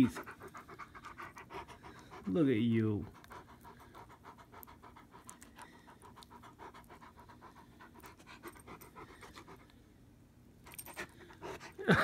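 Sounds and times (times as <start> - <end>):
dog panting: 0.0 - 9.8, 10.7 - 11.8.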